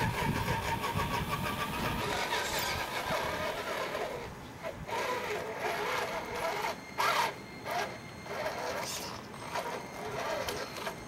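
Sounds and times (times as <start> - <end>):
toy car motor whining on gravel: 0.0 - 11.0.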